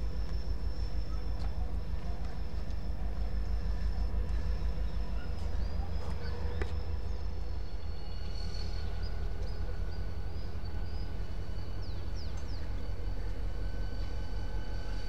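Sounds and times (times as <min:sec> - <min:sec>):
distant diesel locomotive rumble: 0:00.0 - 0:15.0.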